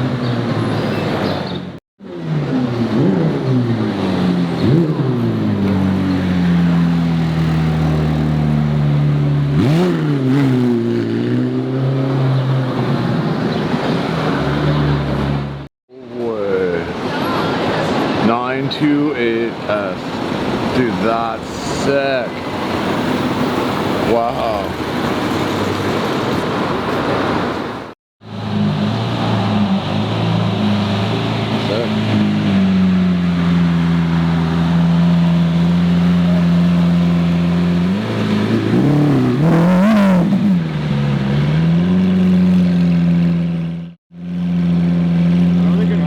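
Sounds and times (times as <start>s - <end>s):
car engine running nearby: 0.0s - 46.0s
street traffic: 0.0s - 46.0s.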